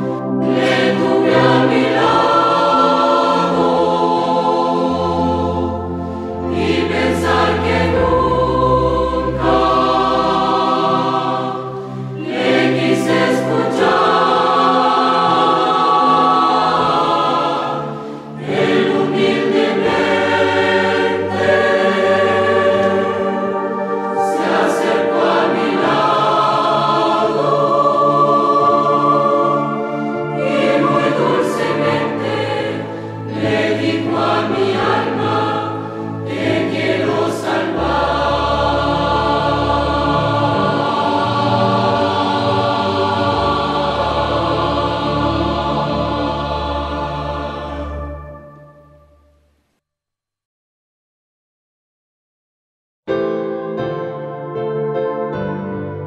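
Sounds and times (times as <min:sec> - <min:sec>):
choir singing a hymn: 0:00.0 - 0:49.0.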